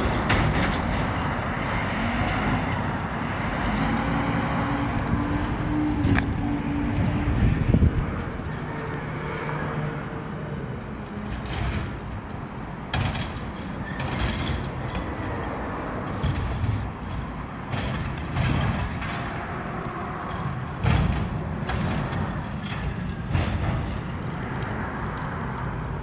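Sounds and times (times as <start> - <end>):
truck engine hum: 0.0 - 26.0.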